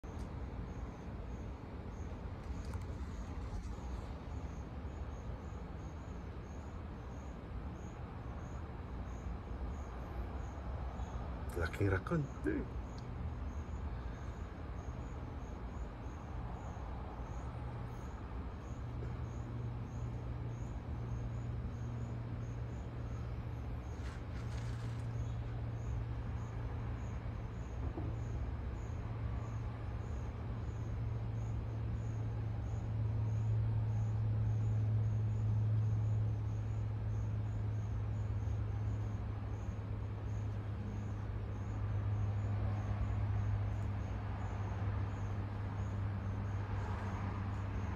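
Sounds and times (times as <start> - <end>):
insects chirping: 0.0 - 47.9
low mechanical hum: 0.0 - 47.9.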